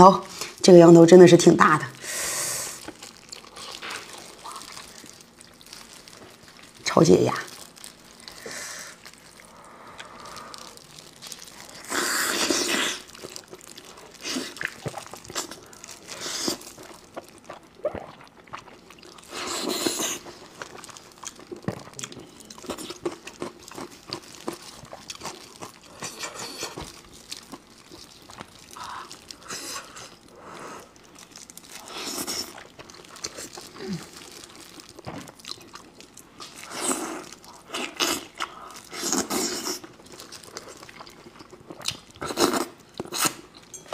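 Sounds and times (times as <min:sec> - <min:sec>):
biting and chewing meat: 0:02.7 - 0:06.9, 0:07.5 - 0:43.9.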